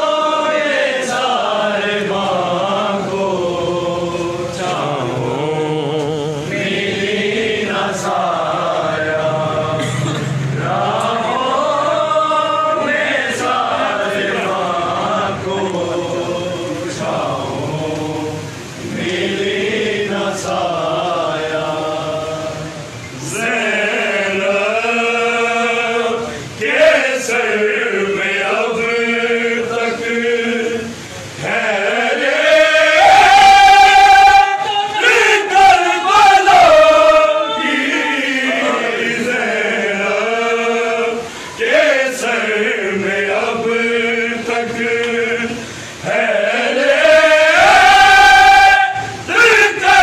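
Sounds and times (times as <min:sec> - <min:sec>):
men chanting a mourning lament: 0:00.0 - 0:50.0.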